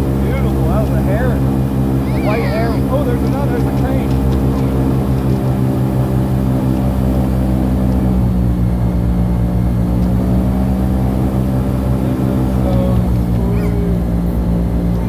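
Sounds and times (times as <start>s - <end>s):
airboat engine and propeller drone: 0.0s - 15.0s.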